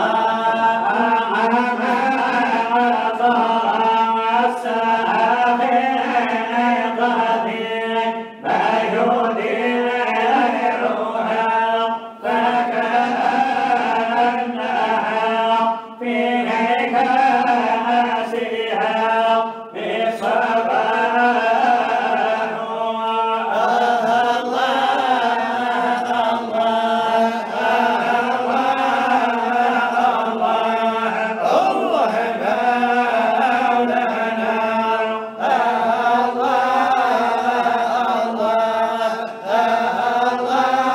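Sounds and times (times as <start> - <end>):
men chanting into a microphone: 0.0 - 40.9.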